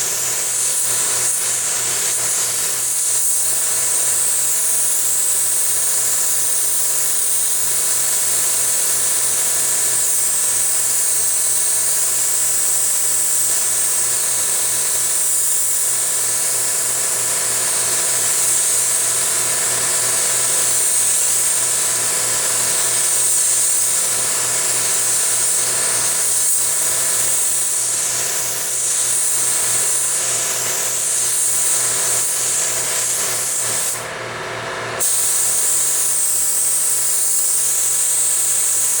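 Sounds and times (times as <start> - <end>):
paint spray gun hissing: 0.0 - 34.1, 35.0 - 39.0.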